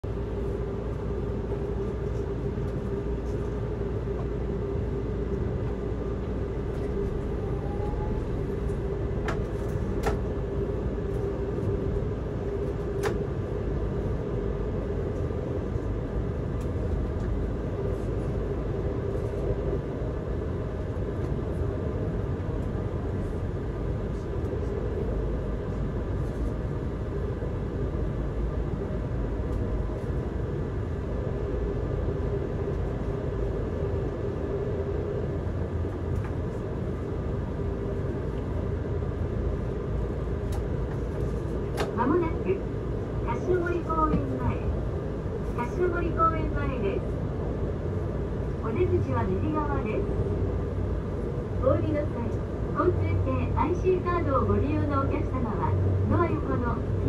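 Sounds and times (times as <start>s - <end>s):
tram wheels rumbling on rail: 0.0s - 57.0s.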